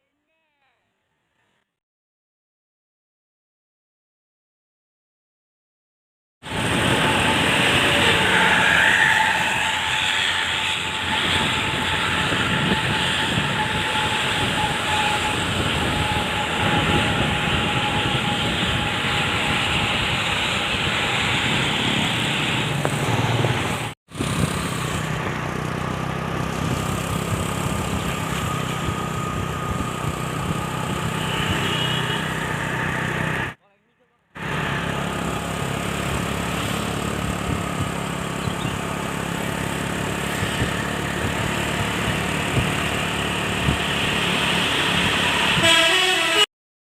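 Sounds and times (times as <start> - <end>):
heavy vehicle engine and road noise: 6.4 - 33.6, 34.4 - 46.5.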